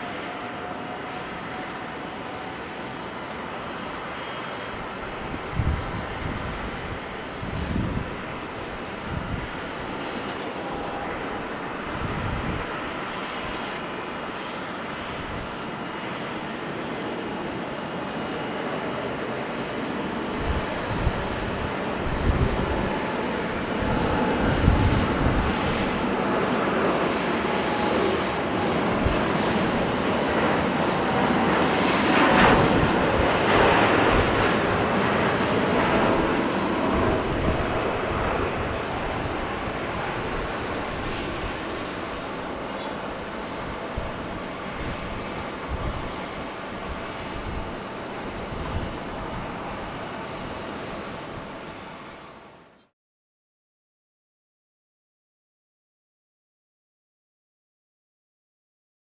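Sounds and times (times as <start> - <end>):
jet engines at takeoff: 0.0 - 52.9.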